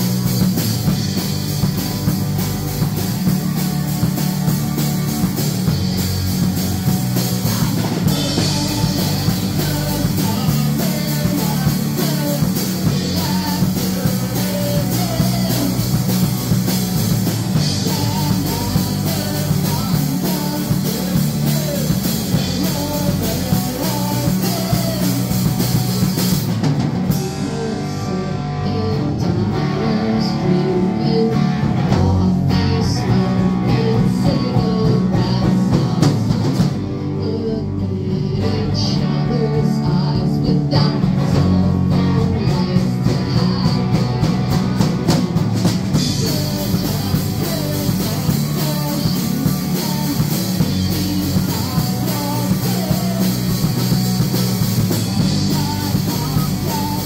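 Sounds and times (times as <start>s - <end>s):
person singing: 0.0s - 26.5s, 27.1s - 44.7s, 45.9s - 57.0s
bass: 0.0s - 57.0s
drum kit: 0.0s - 57.0s
electric guitar: 0.0s - 57.0s.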